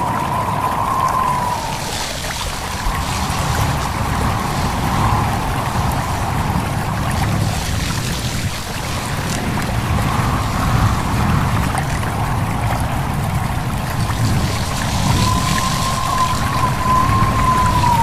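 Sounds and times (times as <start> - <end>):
leaves rustling: 0.0 - 12.4, 13.8 - 18.0
faint water ticks: 0.0 - 18.0
stream babbling: 0.0 - 18.0
wind: 0.0 - 18.0.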